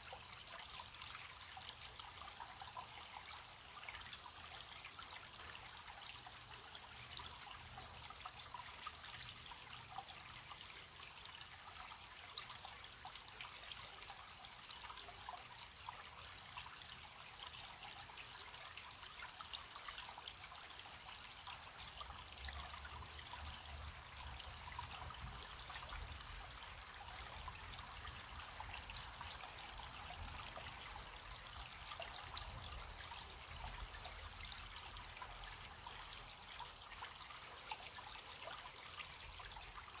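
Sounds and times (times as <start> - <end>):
crickets chirping: 0.0 - 38.6
stream trickling: 0.0 - 40.0.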